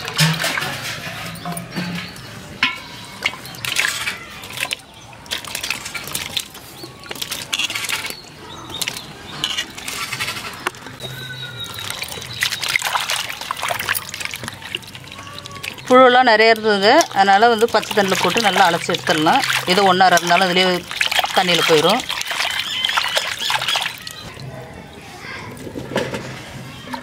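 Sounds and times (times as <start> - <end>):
water splashing in steel bowl: 0.0 - 24.6.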